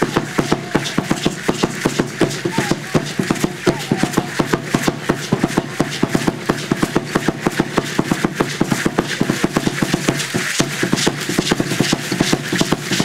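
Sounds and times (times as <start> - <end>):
drum beaten in fast rhythm: 0.0 - 13.0
rattle shaking: 0.0 - 13.0.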